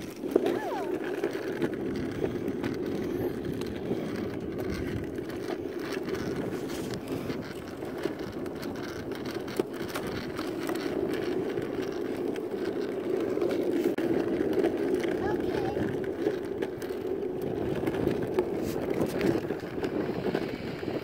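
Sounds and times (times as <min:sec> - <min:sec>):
scooter wheels rolling on asphalt: 0:00.0 - 0:21.0.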